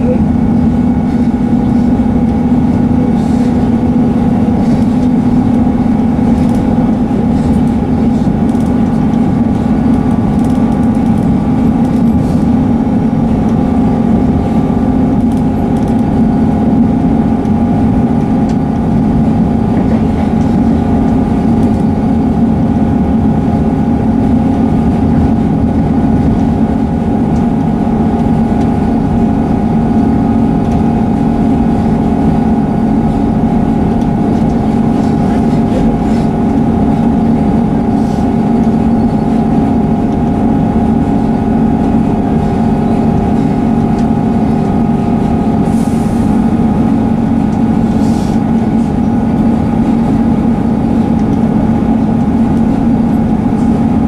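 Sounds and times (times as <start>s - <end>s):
diesel engine humming: 0.0s - 54.0s
train rumbling: 0.0s - 54.0s.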